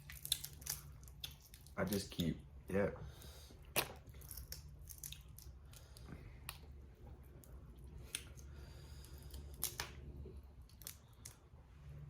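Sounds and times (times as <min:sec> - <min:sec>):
crawfish shells cracking: 0:00.0 - 0:02.3, 0:03.6 - 0:11.4.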